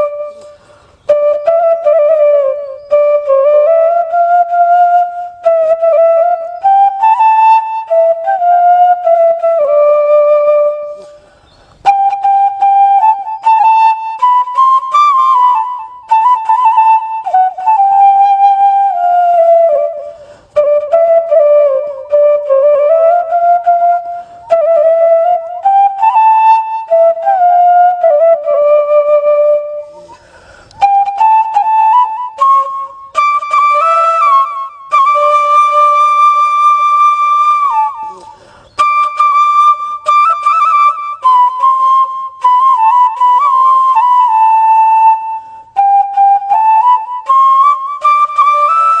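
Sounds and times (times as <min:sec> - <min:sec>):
solo flute melody: 0:00.0 - 0:49.0.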